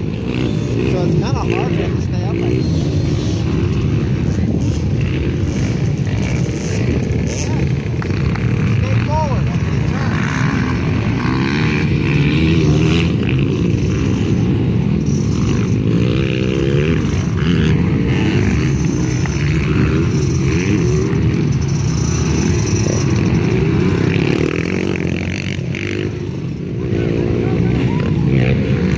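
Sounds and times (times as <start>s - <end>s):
two-stroke dirt bike engine revving: 0.0s - 28.9s.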